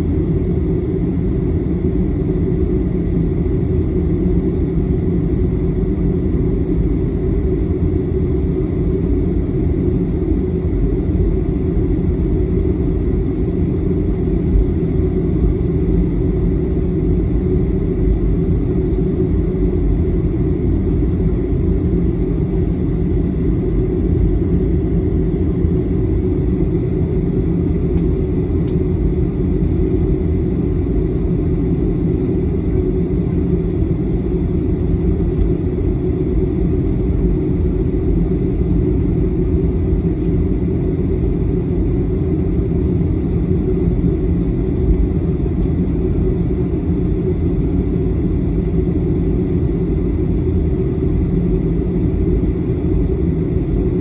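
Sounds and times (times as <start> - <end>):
jet engines low rumble: 0.0 - 54.0.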